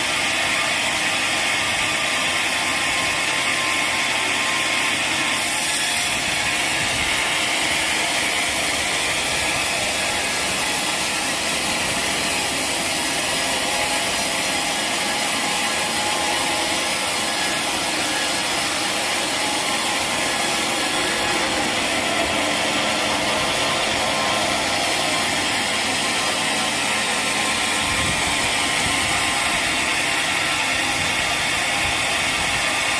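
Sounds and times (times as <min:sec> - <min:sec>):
saw cutting through log: 0:00.0 - 0:32.9.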